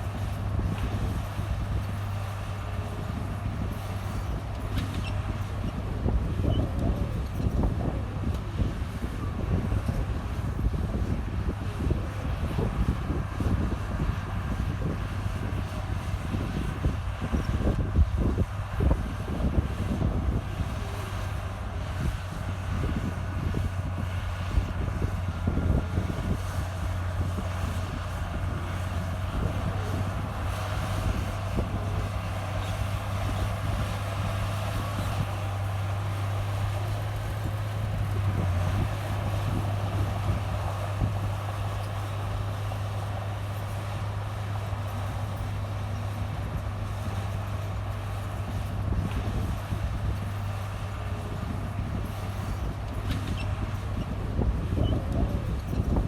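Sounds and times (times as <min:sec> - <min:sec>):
bulldozer diesel engine humming: 0:00.0 - 0:56.0.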